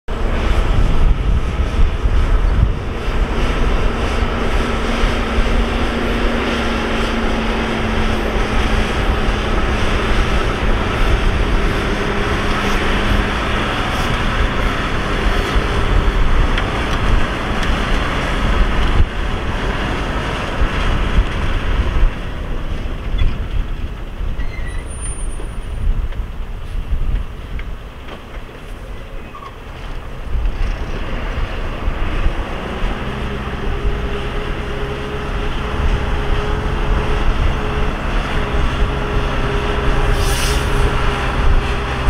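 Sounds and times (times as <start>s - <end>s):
diesel machinery engine drone: 0.1s - 42.0s.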